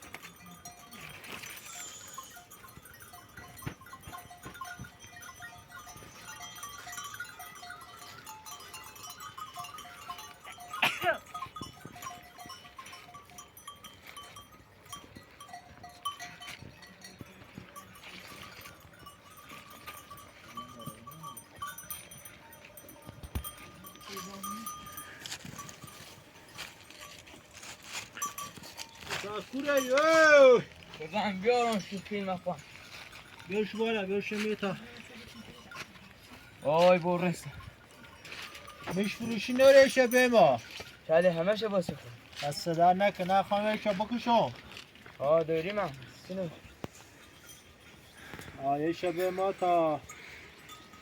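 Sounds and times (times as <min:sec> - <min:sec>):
livestock bells clinking: 0:00.0 - 0:51.0.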